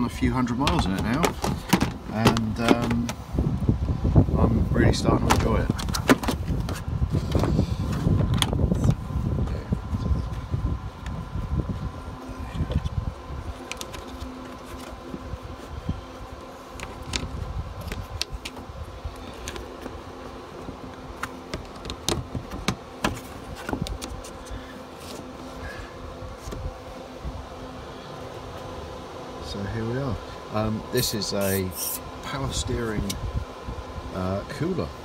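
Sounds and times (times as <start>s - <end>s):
small electric motor humming: 5.8s - 34.9s.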